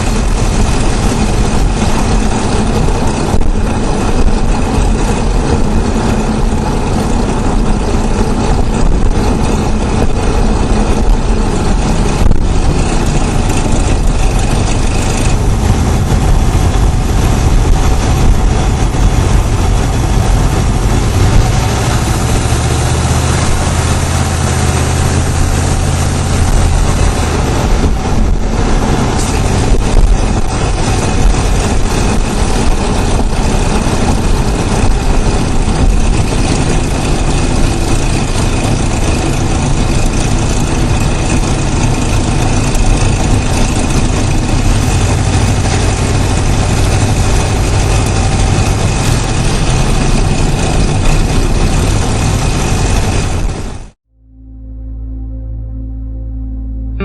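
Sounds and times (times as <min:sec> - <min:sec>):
engine running with chatter: 0:00.0 - 0:54.0
deep low hum: 0:00.0 - 0:57.0.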